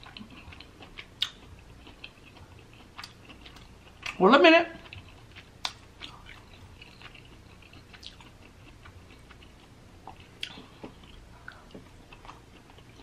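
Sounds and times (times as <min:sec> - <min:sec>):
quiet chewing with wet clicks: 0:00.0 - 0:04.2, 0:04.8 - 0:13.0.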